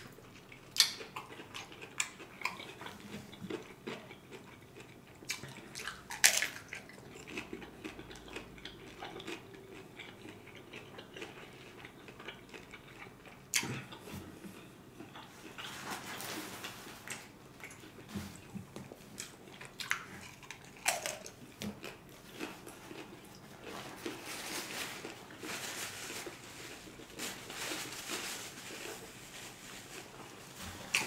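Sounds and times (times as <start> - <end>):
chewing crunchy taco: 0.0 - 31.0.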